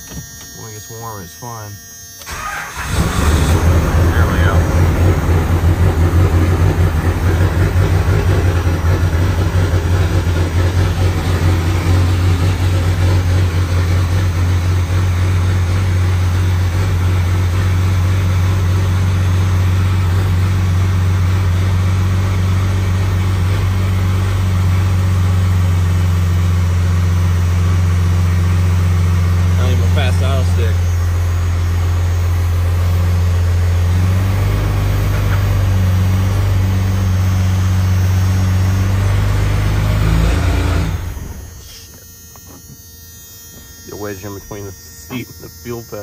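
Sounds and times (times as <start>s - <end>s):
diesel engine idling: 2.3s - 42.0s.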